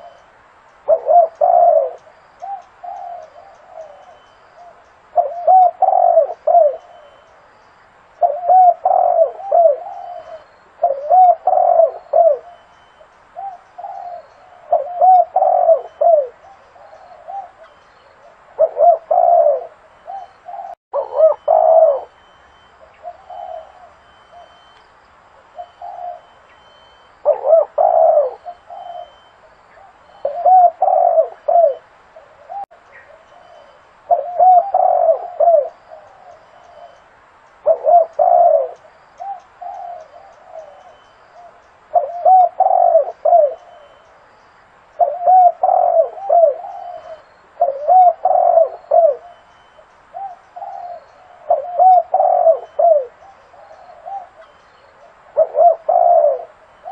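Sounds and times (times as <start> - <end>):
dove cooing: 0.0 - 0.2, 0.8 - 7.4, 8.2 - 24.8, 25.4 - 44.1, 45.0 - 56.9.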